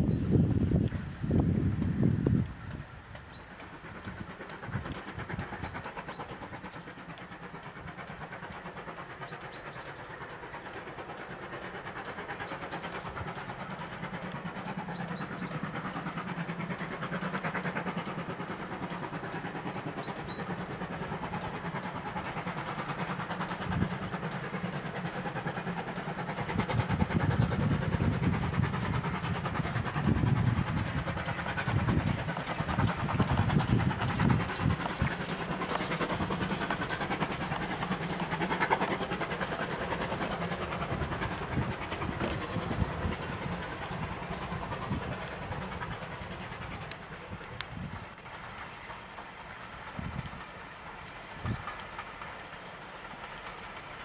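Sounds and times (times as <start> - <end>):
steam locomotive passing: 0.0 - 54.0.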